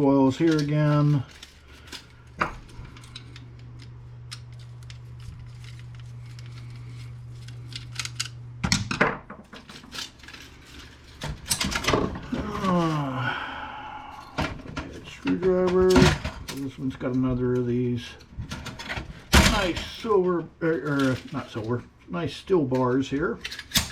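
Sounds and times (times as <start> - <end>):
plastic and metal parts clattering: 0.0 - 13.2, 14.3 - 21.9, 22.8 - 23.9
steady low hum: 0.0 - 23.9.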